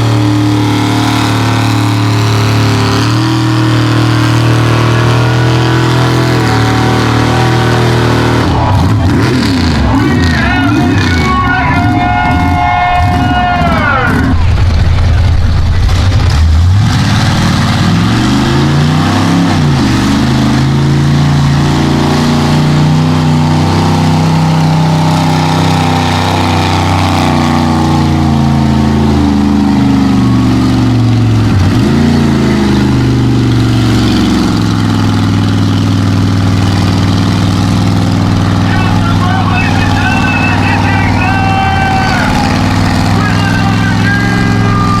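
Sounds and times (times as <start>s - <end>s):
truck engine running hard: 0.0s - 45.0s.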